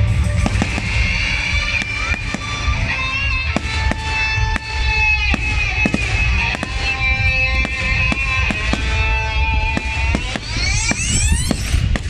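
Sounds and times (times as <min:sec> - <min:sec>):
fireworks bangs and crackles: 0:00.0 - 0:12.0
low rumble: 0:00.0 - 0:12.0
held high tones: 0:00.4 - 0:12.0.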